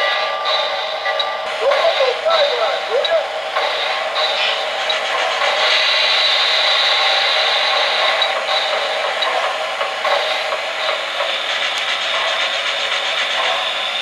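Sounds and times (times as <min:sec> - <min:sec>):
model train wheels and motors hissing: 0:00.0 - 0:14.0.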